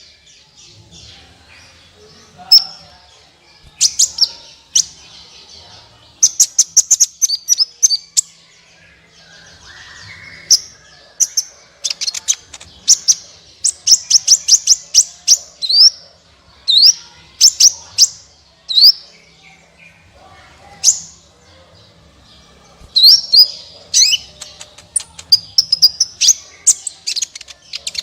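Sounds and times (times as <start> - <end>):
bird chirping: 0.0 - 28.0.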